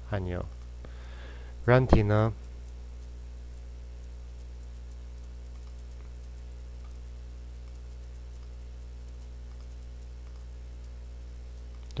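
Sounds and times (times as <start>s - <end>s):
electrical mains hum: 0.0s - 12.0s
faint clicks: 2.3s - 12.0s.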